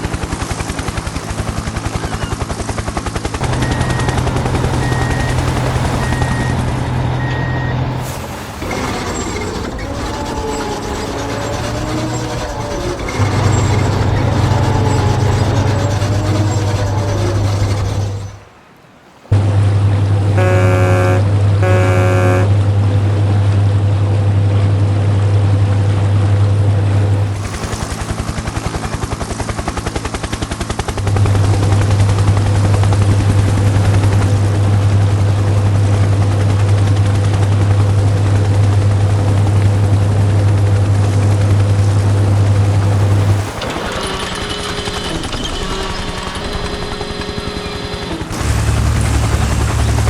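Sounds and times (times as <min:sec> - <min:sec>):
construction machine engine rumbling: 0:00.0 - 0:50.0.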